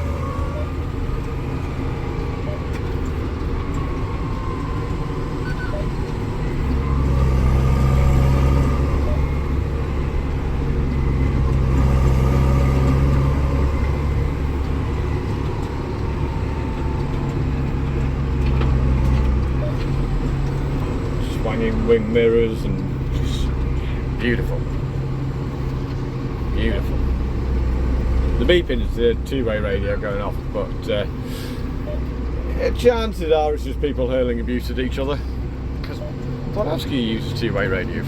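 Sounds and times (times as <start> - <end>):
tractor engine droning: 0.0 - 38.0.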